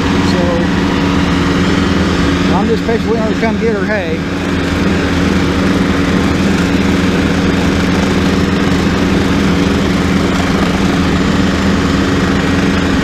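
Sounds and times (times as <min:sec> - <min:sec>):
rotary cutter cutting grass: 0:00.0 - 0:13.0
tractor engine running: 0:00.0 - 0:13.0.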